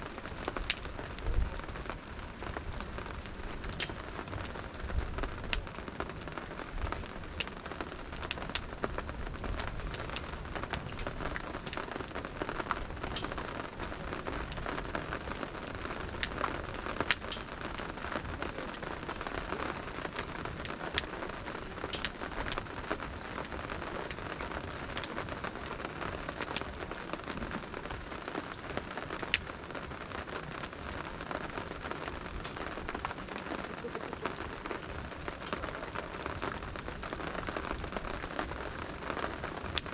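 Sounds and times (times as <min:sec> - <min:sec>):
campfire crackling and popping: 0:00.0 - 0:39.9
steady rain falling: 0:00.0 - 0:39.9.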